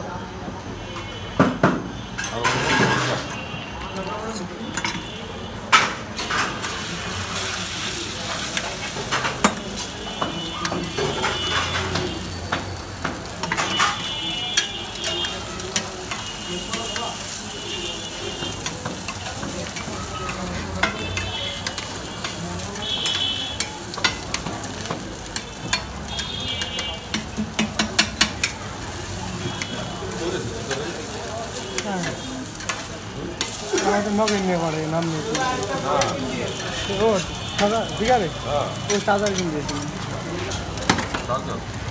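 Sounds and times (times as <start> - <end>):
cooking oil sizzling: 1.9 - 41.9.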